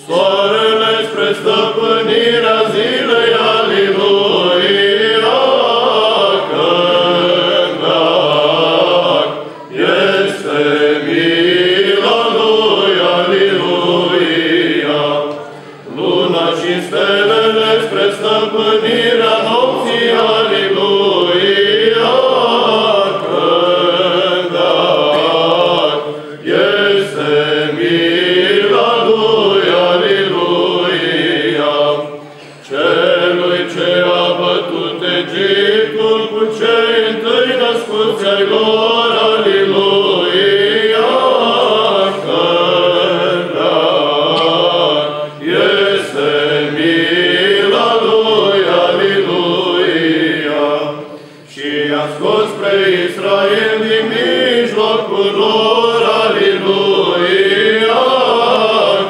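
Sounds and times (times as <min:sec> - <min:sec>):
choir chanting melismatic melody: 0:00.0 - 0:59.0.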